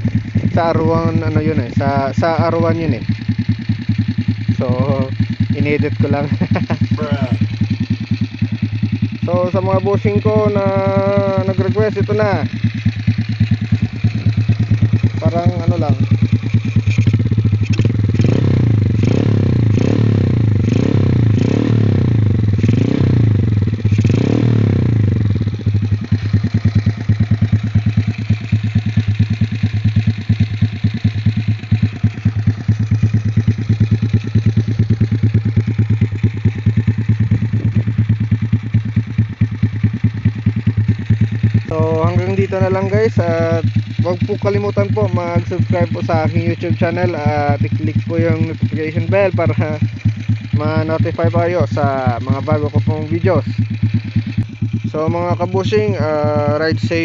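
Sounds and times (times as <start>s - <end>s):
motorcycle engine pulsing idle: 0.0s - 57.0s
motorcycle engine revving: 0.0s - 57.0s.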